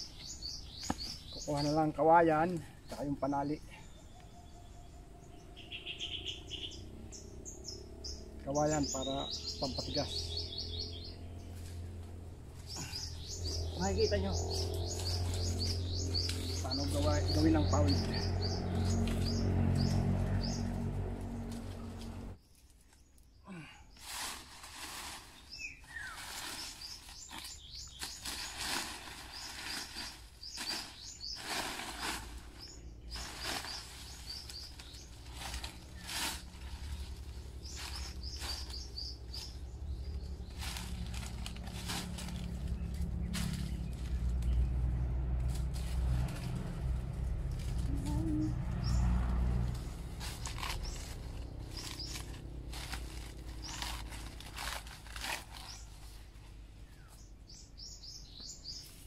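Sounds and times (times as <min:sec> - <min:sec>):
dry palm leaves rustling: 0:00.0 - 0:04.0, 0:05.2 - 0:59.0
steady low rumble: 0:00.0 - 0:22.4, 0:27.7 - 0:57.1
birds chirping: 0:00.0 - 0:24.1, 0:25.2 - 0:59.0.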